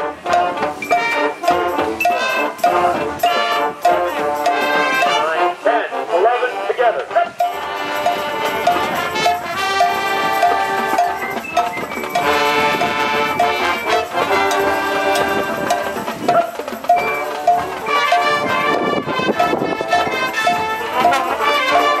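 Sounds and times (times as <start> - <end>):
steady ticking beat: 0.0 - 5.7, 7.0 - 22.0
brass sustained chords: 0.0 - 11.2, 12.2 - 16.2, 17.3 - 22.0.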